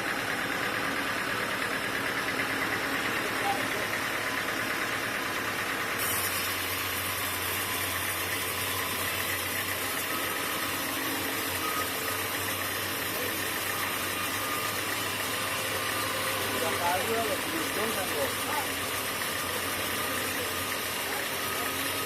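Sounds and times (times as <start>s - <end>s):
low engine-like hum: 0.0s - 22.0s
sawmill machinery running: 0.0s - 22.0s.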